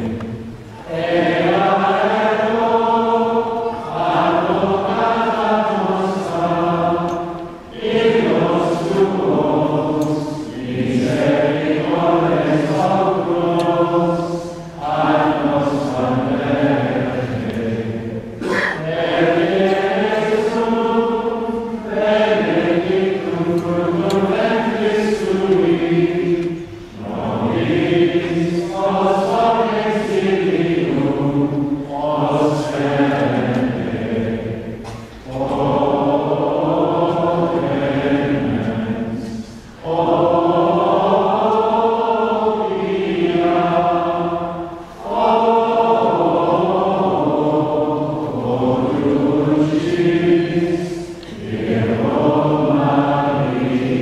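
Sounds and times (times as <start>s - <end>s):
group singing a slow chant: 0.0s - 54.0s.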